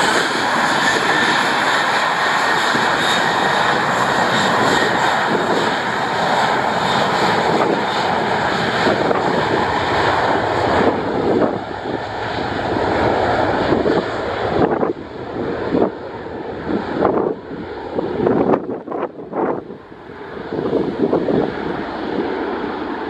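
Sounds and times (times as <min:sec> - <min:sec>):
high engine whine: 0:00.0 - 0:23.0
jet engine roar: 0:00.0 - 0:23.0.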